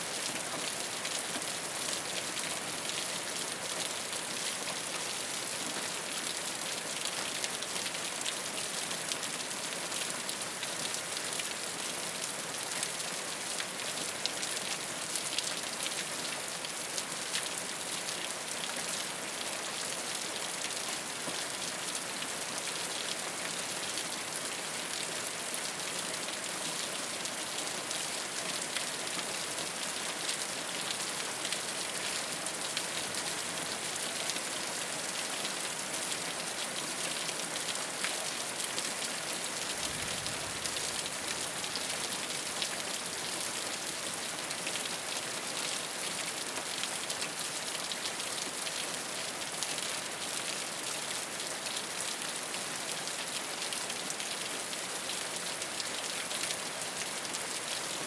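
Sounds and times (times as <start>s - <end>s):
rain on a rooftop: 0.0s - 58.0s.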